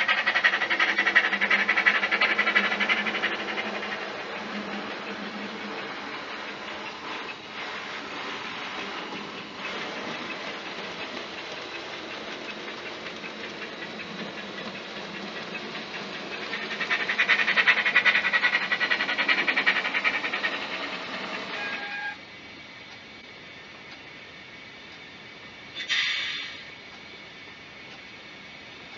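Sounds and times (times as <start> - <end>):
steam hiss from speaker: 0.0 - 22.2, 25.8 - 26.8
steam locomotive chuffing: 0.0 - 22.2, 25.7 - 26.8.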